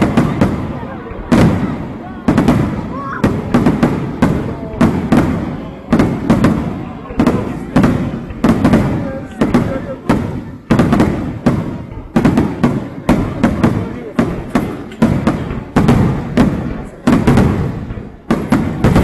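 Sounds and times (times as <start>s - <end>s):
fireworks bursting with echoing booms: 0.0s - 19.0s.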